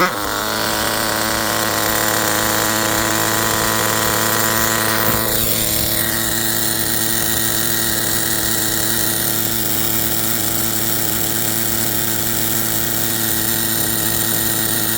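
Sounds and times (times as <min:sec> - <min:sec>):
small rc car engine running: 0:00.0 - 0:14.9.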